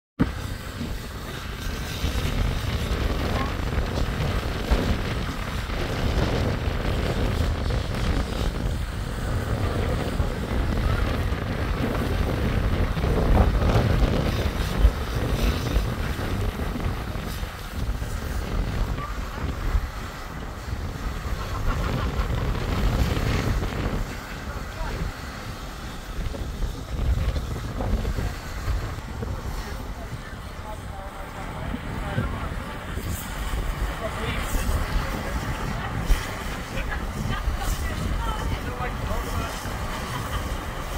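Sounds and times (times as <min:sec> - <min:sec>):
wind buffeting microphone: 0:00.2 - 0:40.9
faint voices: 0:00.3 - 0:40.9.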